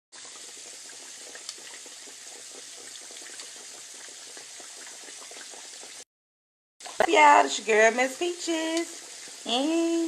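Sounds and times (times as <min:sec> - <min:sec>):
meat sizzling in hot oil: 0:00.1 - 0:06.0, 0:06.9 - 0:10.0.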